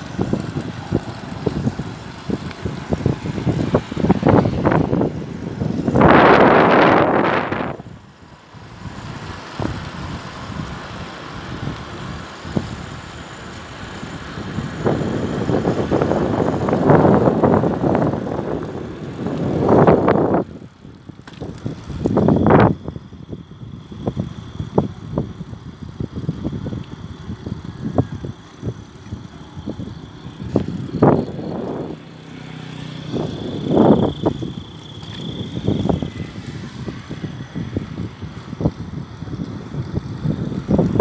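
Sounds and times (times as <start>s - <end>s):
bicycle tyre and road noise: 0.0s - 41.0s
wind buffeting microphone: 0.0s - 41.0s.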